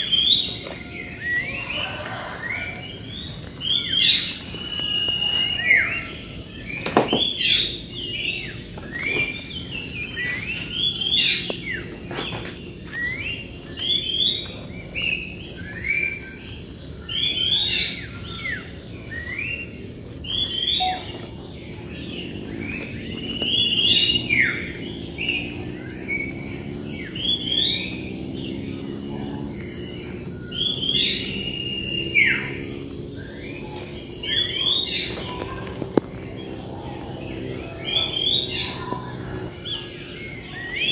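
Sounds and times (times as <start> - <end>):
birds chirping: 0.0 - 40.9
high-pitched insect drone: 0.0 - 40.9.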